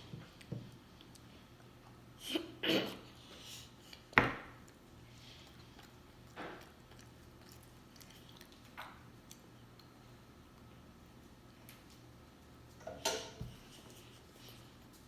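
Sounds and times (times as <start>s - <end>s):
child eating: 0.0s - 10.8s, 13.4s - 15.0s.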